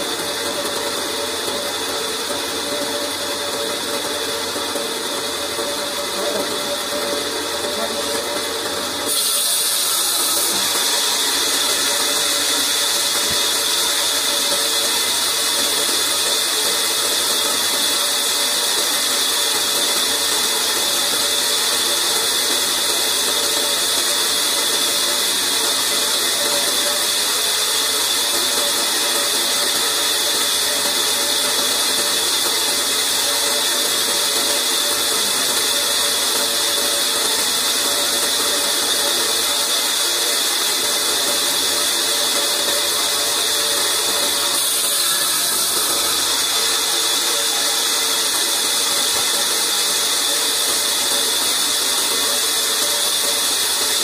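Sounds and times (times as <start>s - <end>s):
bandsaw running: 0.0s - 54.0s.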